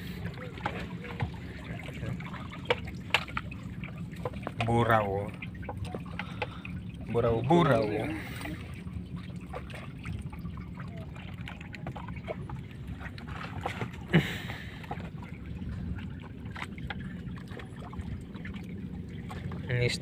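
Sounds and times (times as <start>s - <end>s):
steady low hum: 0.0s - 20.0s
water trickling and dripping: 0.0s - 20.0s.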